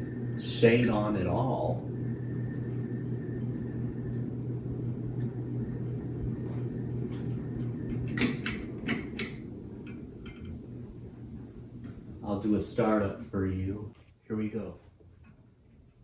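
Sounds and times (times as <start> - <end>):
ceiling fan running: 0.0 - 16.0.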